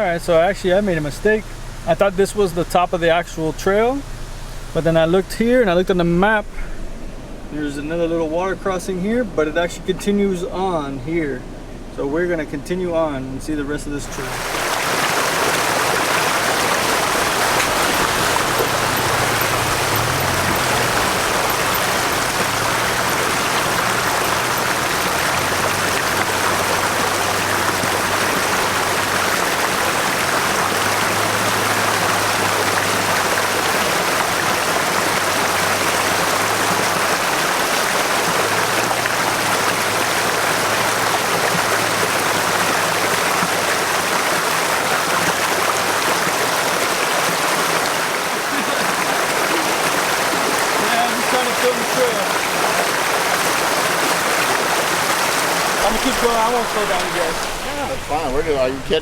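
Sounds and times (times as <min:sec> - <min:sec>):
creek water rushing: 0:00.0 - 0:59.0
truck engine running: 0:00.0 - 0:59.0.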